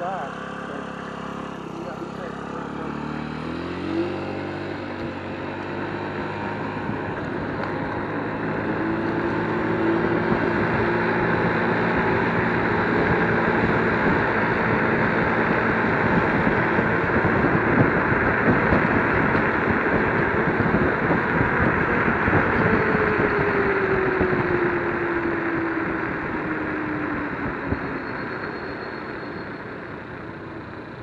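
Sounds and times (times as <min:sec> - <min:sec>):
electric scooter motor whine: 0:00.0 - 0:31.0
wind noise on microphone: 0:03.8 - 0:28.9.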